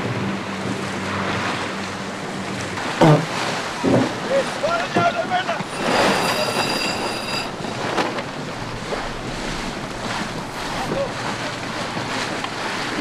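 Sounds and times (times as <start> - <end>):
water rushing along hull: 0.0 - 13.0.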